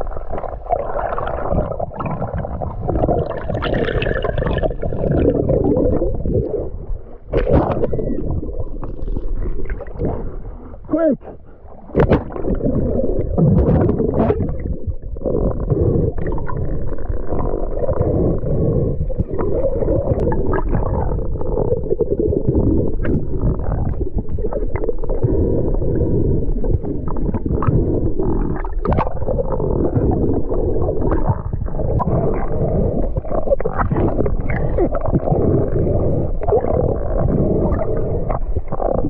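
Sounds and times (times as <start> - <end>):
underwater rumble and gurgling: 0.0 - 39.0.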